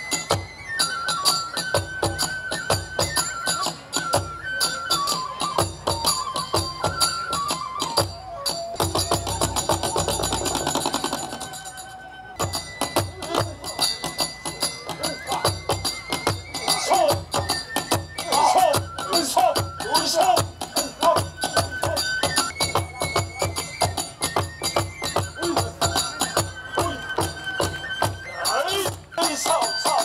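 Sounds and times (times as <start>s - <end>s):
flute-like melody: 0.0s - 30.0s
rhythmic percussion: 0.0s - 30.0s.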